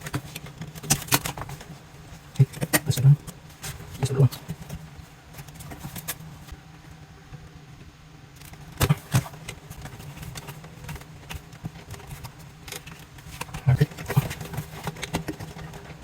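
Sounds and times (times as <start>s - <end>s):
hands working with wire and tools: 0.0s - 6.6s, 8.4s - 16.0s
steady low hum: 0.0s - 16.0s.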